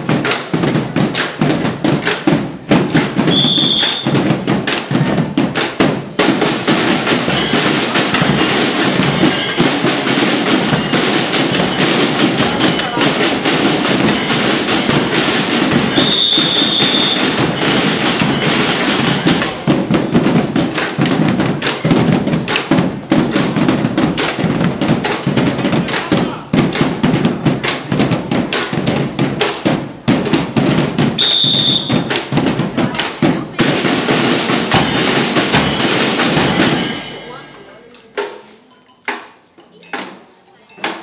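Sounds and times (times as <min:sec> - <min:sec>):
marching band drumming: 0:00.0 - 0:38.4.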